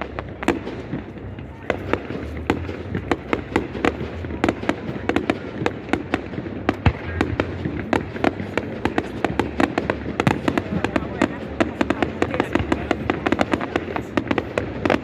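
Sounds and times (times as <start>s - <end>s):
fireworks bangs and crackles: 0.0s - 15.0s
rumble of echoing detonations: 0.0s - 15.0s.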